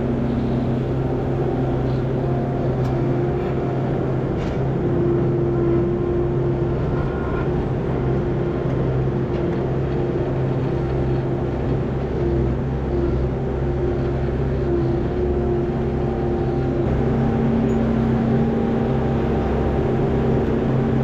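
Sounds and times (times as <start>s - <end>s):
vehicle engine running steadily: 0.0s - 21.0s.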